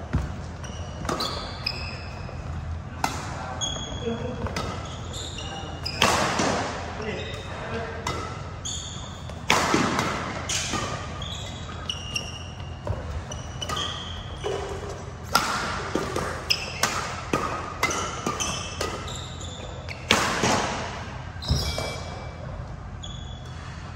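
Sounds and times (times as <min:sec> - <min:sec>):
sneakers squeaking on court: 0:00.0 - 0:23.8.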